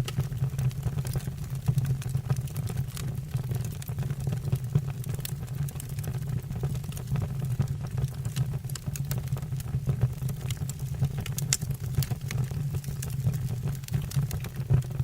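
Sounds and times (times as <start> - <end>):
crackles and pops of burning logs: 0.0 - 15.0
low rumble of flames: 0.0 - 15.0.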